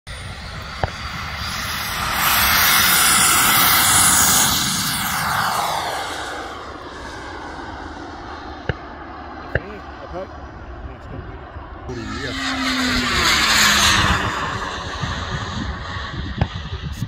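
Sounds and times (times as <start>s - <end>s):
model jet turbine whine: 0.1s - 17.0s.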